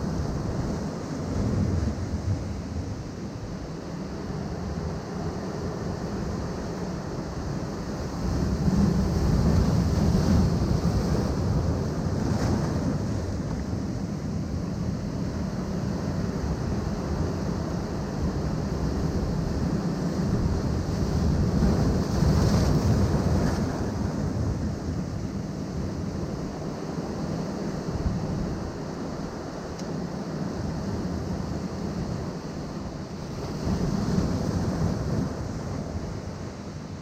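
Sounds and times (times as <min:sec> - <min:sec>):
ocean surf on rocky shore: 0:00.0 - 0:37.0
wind rumbling on microphone: 0:00.0 - 0:37.0.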